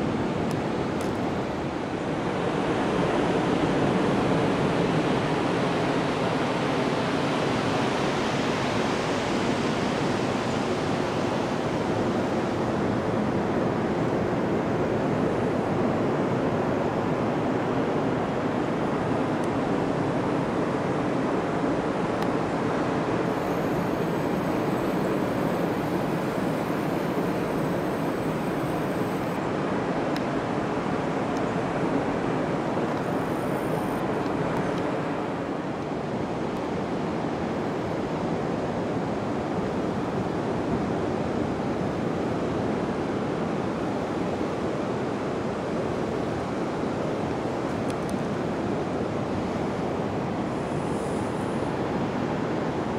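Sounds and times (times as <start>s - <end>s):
ocean waves breaking on beach: 0.0s - 52.9s.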